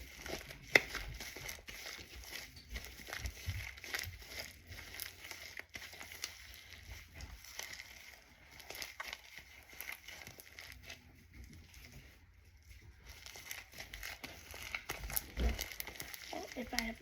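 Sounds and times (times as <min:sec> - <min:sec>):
hands squishing foam slime: 0:00.0 - 0:17.0.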